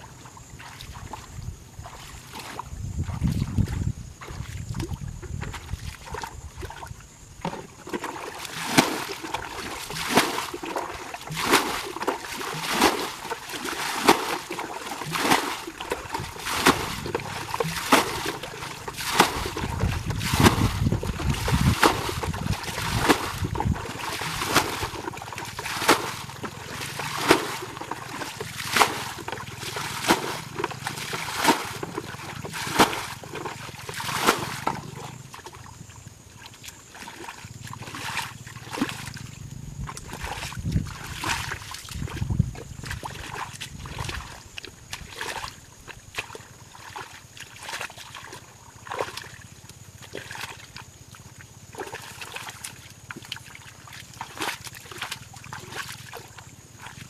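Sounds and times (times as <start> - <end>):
bucket scooping water: 0.0 - 57.0.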